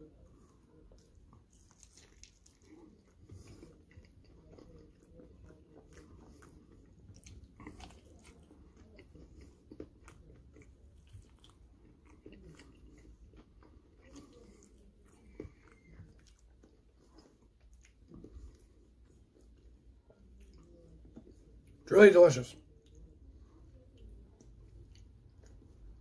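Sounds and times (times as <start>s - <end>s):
chewing and wet mouth clicks: 0.9s - 21.8s, 23.8s - 26.0s.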